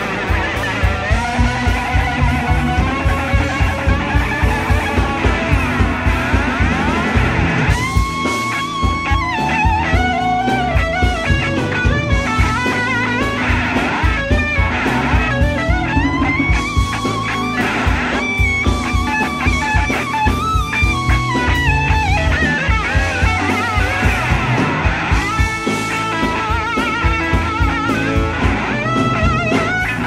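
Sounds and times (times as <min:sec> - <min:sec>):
electric slide guitar solo: 0:00.0 - 0:30.0
rock band with drums: 0:00.0 - 0:30.0.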